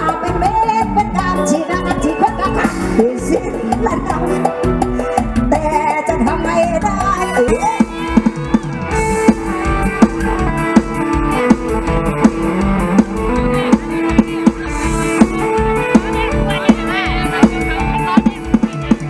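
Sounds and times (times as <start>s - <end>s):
bass: 0.0s - 19.0s
drum kit: 0.0s - 19.0s
plucked electric lead melody: 0.0s - 19.0s.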